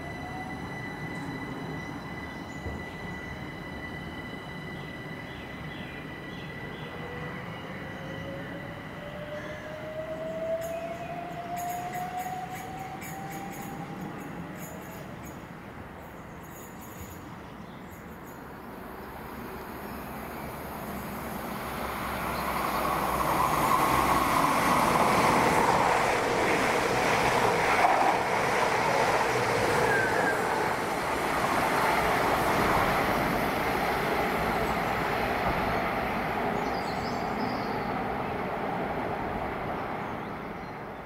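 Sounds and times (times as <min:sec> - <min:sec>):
train wheels rumbling on rails: 0:00.0 - 0:15.7, 0:20.9 - 0:40.6.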